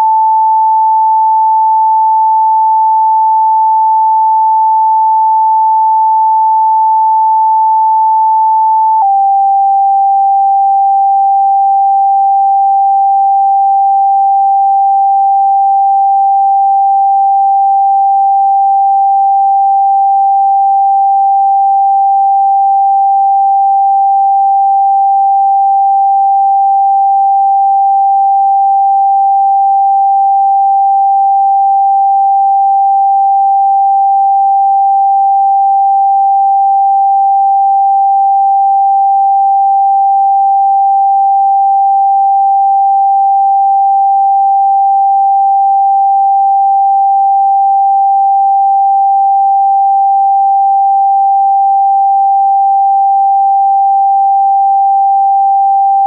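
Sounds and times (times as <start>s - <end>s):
pure sine tone: 0.0s - 56.0s.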